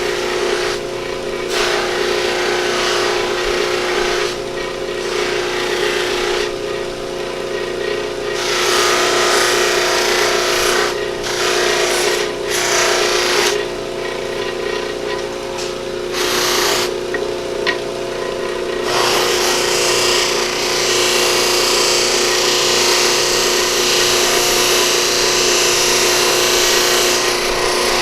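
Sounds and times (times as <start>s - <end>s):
buffing wheel motor hum: 0.0s - 28.0s.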